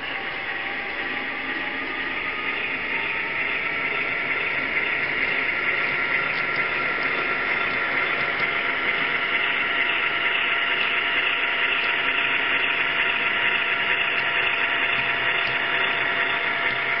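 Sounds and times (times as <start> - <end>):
faint steady tones: 0.0 - 17.0.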